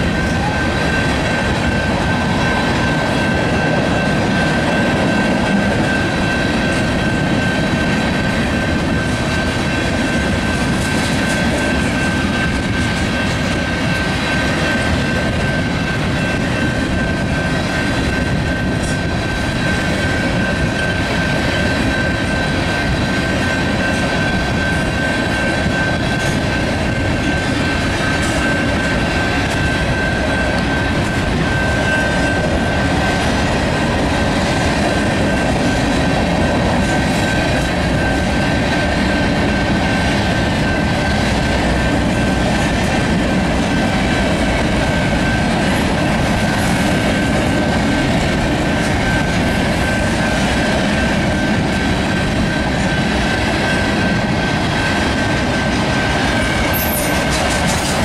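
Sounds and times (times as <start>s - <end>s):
freight cars rolling on rails: 0.0s - 58.0s
steady high-pitched tone: 0.0s - 58.0s.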